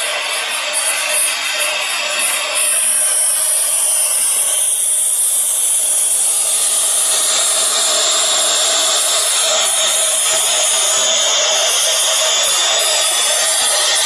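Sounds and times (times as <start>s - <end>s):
bit cutting wood board: 0.0s - 14.0s
router spindle whine: 0.0s - 14.0s.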